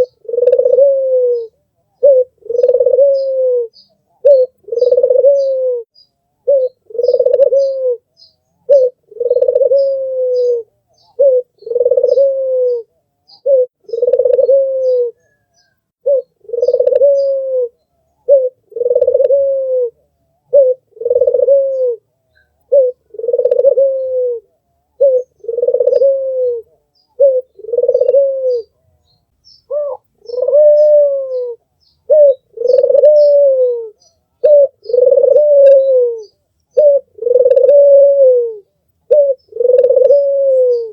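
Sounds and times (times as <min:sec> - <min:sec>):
small birds chirping: 0:00.0 - 0:19.4, 0:20.4 - 0:24.2, 0:24.9 - 0:40.9
dove cooing: 0:00.0 - 0:28.9, 0:29.7 - 0:40.9.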